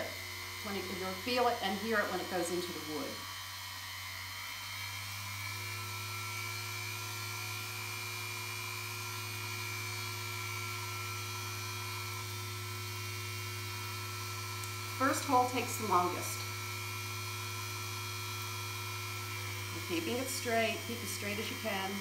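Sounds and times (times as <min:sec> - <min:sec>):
rotary tool drilling into stone: 0:00.0 - 0:22.0.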